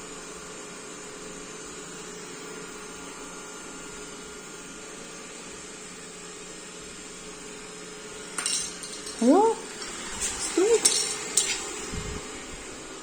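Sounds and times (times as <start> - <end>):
appliance hum and hiss: 0.0 - 13.0.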